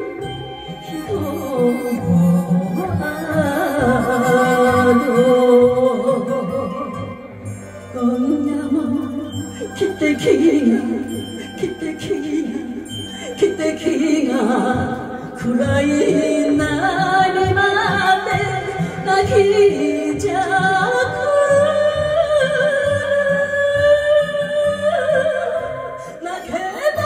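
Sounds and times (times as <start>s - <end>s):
karaoke backing track: 0.0s - 27.0s
woman singing into microphone: 0.0s - 27.0s.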